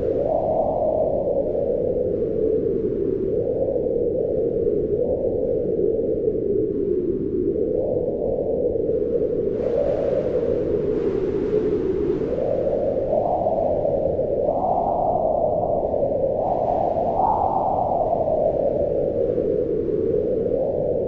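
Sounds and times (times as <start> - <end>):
strong wind howling: 0.0 - 21.0.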